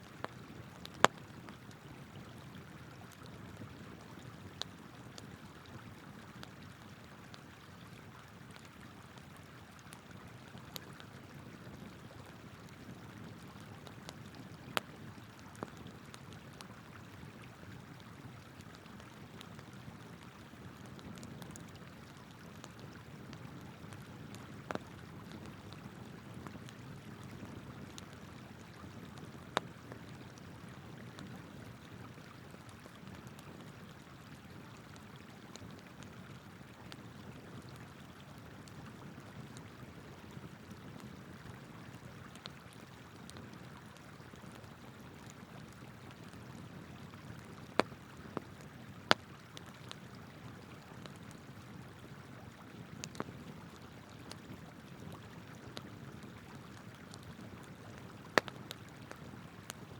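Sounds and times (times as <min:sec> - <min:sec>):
campfire crackling: 0:00.0 - 0:52.2, 0:52.8 - 0:59.9.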